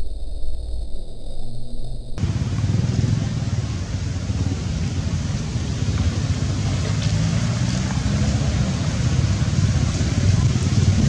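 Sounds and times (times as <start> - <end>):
even hiss: 0.0 - 11.0
steady low rumble: 0.0 - 11.0.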